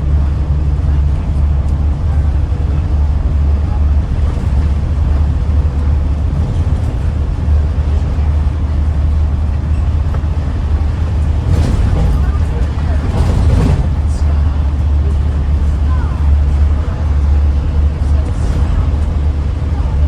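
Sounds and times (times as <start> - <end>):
bus engine drone: 0.0 - 20.0
road and body noise: 0.0 - 20.0.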